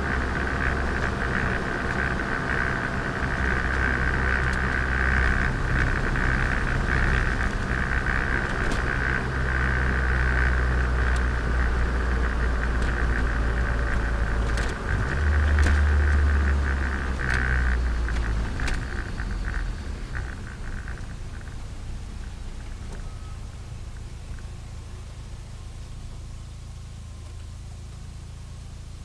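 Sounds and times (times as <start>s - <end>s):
car engine drone: 0.0s - 29.0s
turbo whine: 0.0s - 29.0s.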